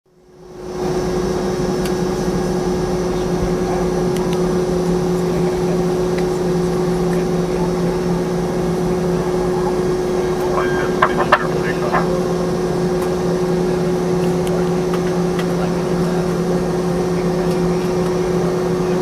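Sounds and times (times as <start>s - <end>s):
airliner cabin engine hum: 0.1s - 19.0s.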